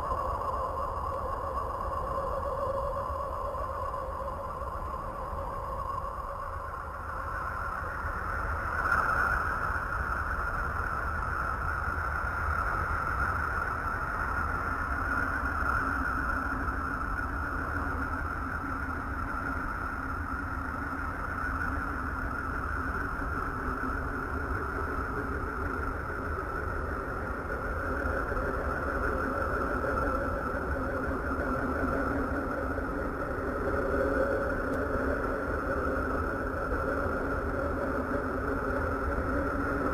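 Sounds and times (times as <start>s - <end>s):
sonified space drone: 0.0s - 39.9s.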